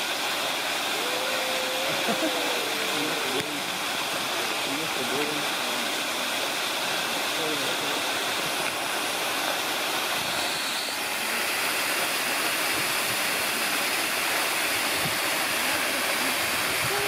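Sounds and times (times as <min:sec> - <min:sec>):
waterfall splashing into pool: 0:00.0 - 0:17.0.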